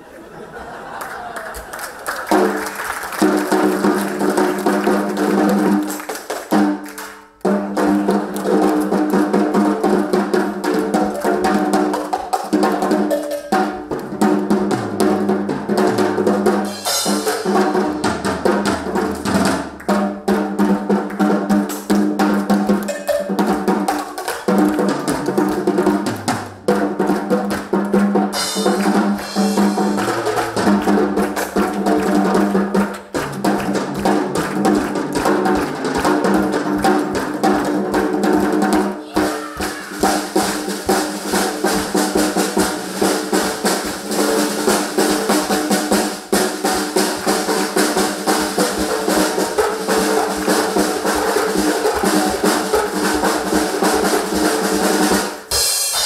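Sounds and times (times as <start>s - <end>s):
marching drums and cymbals: 3.2s - 56.0s.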